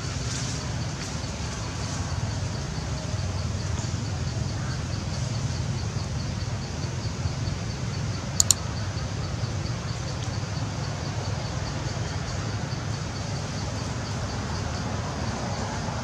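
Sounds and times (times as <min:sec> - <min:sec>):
faint insect ticking: 0:00.0 - 0:15.9.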